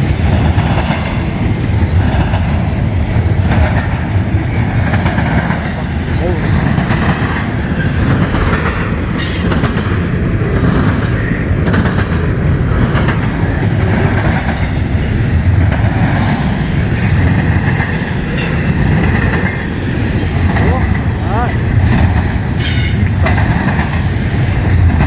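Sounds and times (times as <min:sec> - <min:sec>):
freight train cars rumbling: 0:00.0 - 0:25.0.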